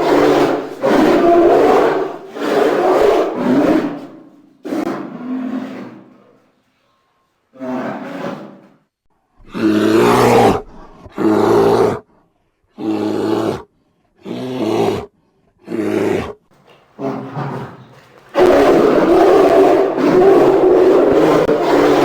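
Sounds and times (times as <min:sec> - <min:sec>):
bear roaring: 0:00.0 - 0:06.2, 0:07.5 - 0:08.5, 0:09.4 - 0:12.1, 0:12.8 - 0:16.4, 0:17.0 - 0:22.0.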